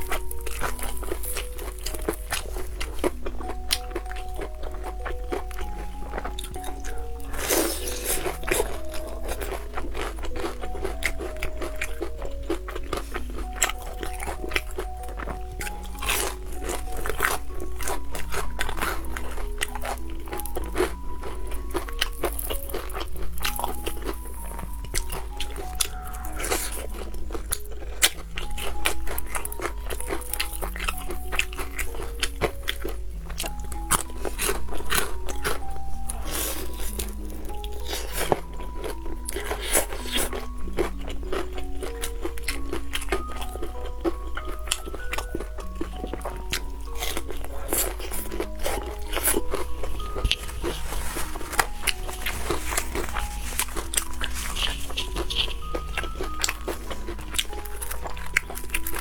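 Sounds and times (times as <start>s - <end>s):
background music with simple melody: 0.0s - 59.0s
crunchy chewing of fried food: 0.0s - 59.0s.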